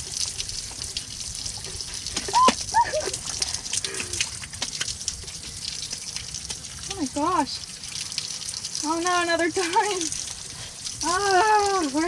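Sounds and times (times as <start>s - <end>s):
shower water spraying: 0.0s - 7.6s, 8.2s - 12.0s.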